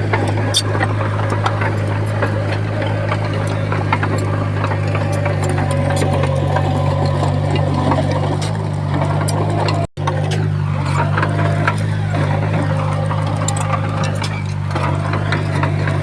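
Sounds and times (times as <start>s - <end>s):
bulldozer diesel engine: 0.0s - 16.0s.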